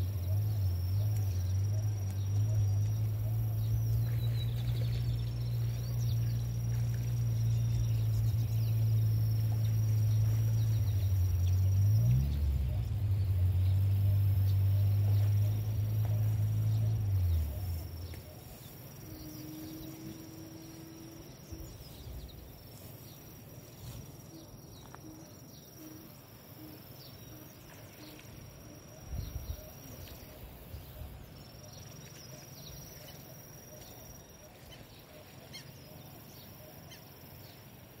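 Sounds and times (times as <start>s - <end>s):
low bird calls: 0.0s - 37.6s.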